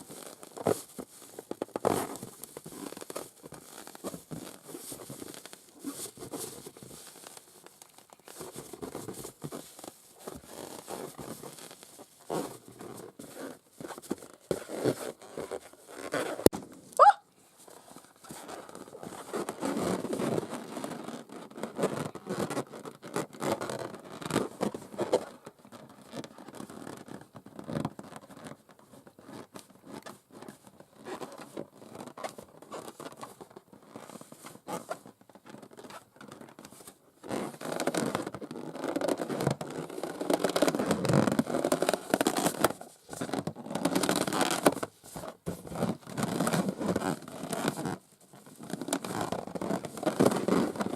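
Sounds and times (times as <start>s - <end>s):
nails scratching rubber balloon: 0.0s - 50.9s.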